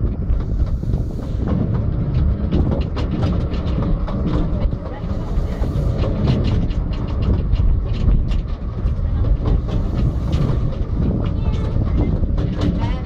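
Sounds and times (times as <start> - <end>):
miniature railway carriage rumble: 0.0 - 13.0.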